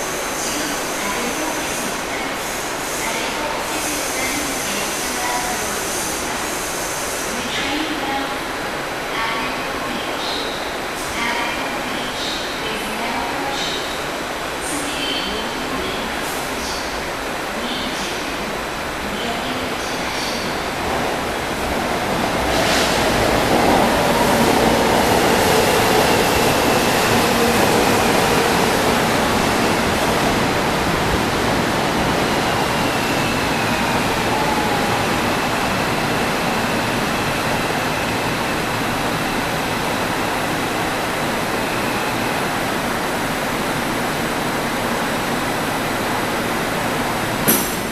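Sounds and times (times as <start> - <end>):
train wheel and track noise: 0.0 - 47.9.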